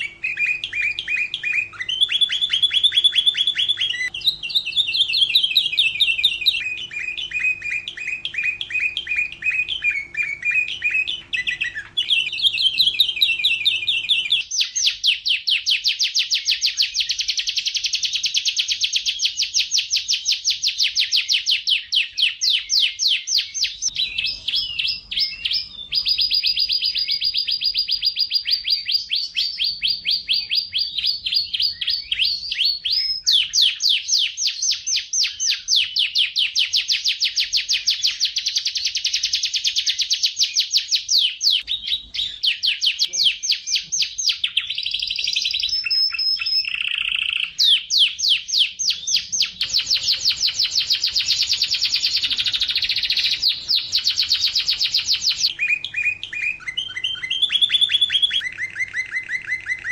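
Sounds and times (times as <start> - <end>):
canary singing rolling trills: 0.0 - 59.9.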